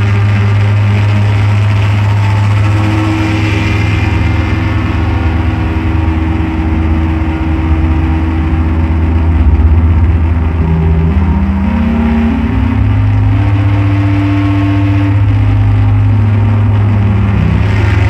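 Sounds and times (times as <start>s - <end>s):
electronic drone music: 0.0s - 18.0s.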